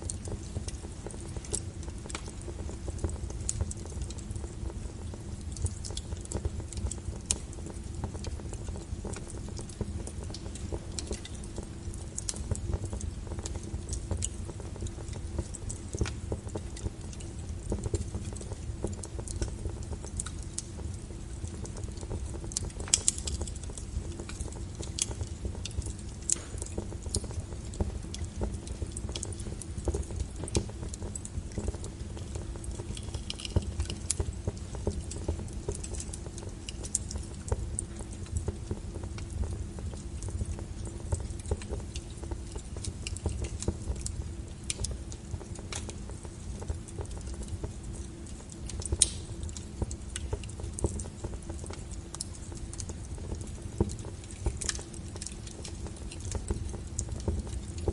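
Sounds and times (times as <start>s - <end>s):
fire crackles and pops: 0.0s - 57.9s
low rumble of flames: 0.0s - 57.9s.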